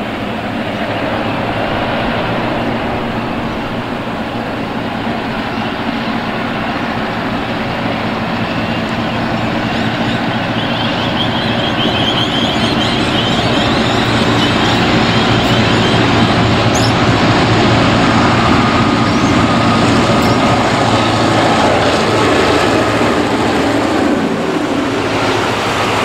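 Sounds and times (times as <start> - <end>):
high wavering squeal: 0.0 - 22.0
diesel locomotives running: 0.0 - 26.0.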